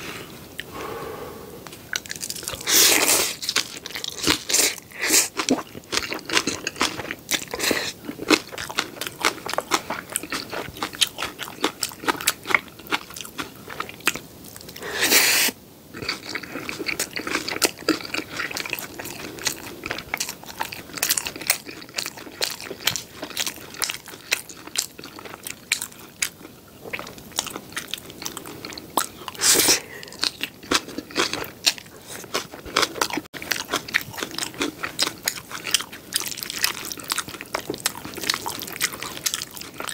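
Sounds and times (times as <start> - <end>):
mouth chewing noodles: 1.8 - 39.9.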